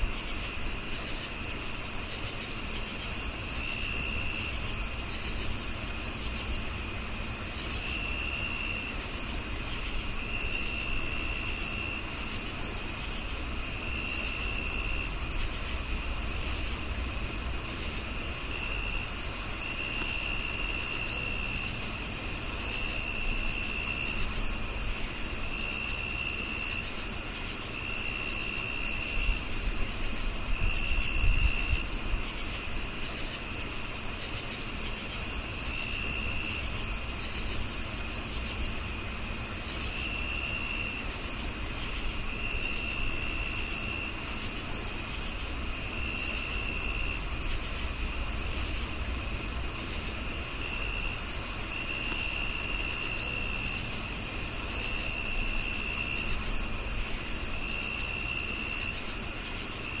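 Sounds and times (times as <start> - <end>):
crickets chirping in chorus: 0.0 - 60.0.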